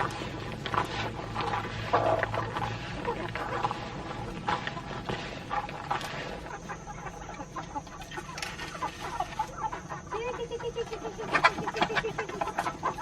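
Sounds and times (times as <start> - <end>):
fowl clucking: 0.0 - 13.0.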